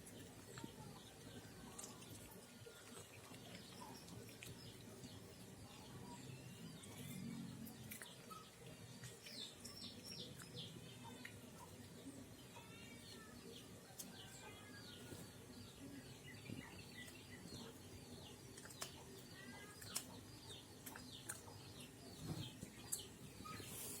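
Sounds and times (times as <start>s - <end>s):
faint bird chirping: 0.0s - 24.0s.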